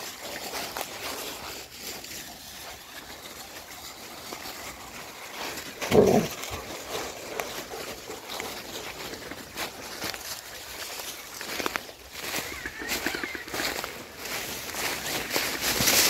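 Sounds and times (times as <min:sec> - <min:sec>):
rustling on forest floor: 0:00.0 - 0:16.0.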